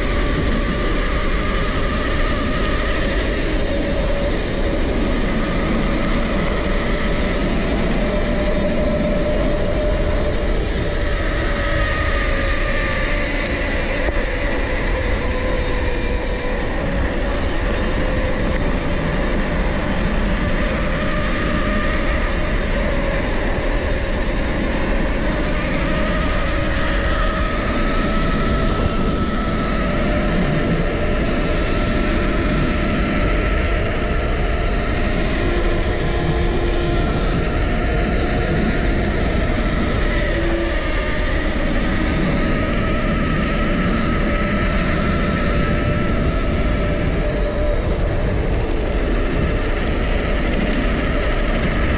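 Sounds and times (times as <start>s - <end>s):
low hum: 0.0s - 51.9s
wind and tyre noise: 0.0s - 51.9s.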